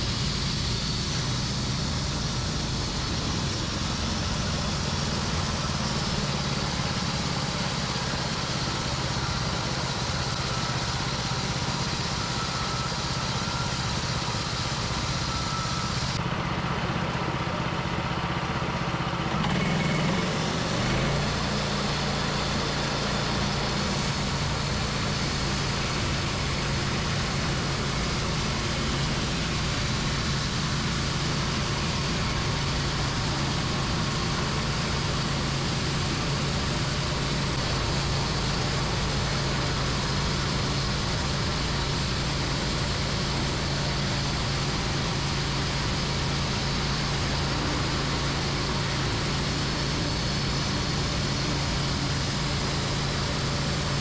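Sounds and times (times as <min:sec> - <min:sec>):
dense mechanical noise: 0:00.0 - 0:54.0
sawmill engine running: 0:00.0 - 0:54.0.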